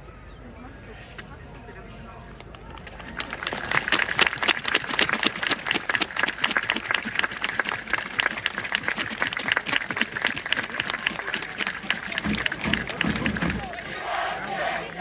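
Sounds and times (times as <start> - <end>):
crowd clapping: 2.5 - 15.0.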